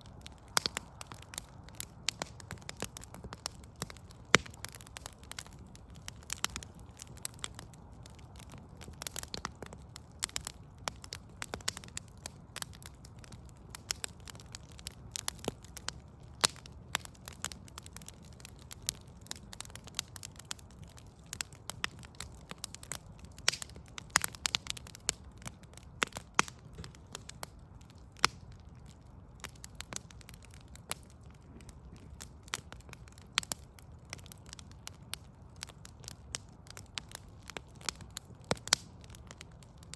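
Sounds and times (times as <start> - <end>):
sharp pops of burning logs: 0.0 - 39.9
wood fire crackling: 0.0 - 39.9.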